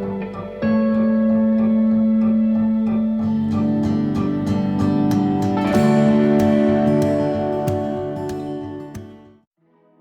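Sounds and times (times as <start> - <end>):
strummed guitar music: 0.0 - 9.5.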